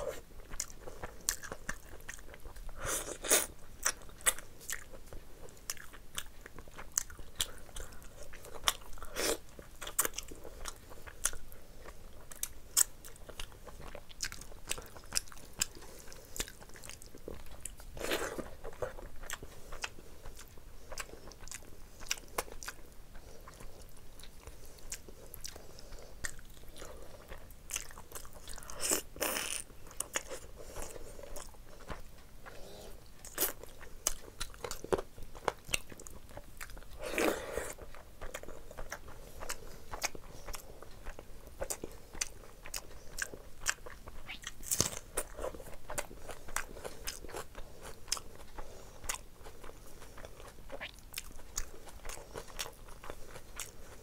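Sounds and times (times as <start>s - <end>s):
wet chewing and lip smacking: 0.0s - 54.0s.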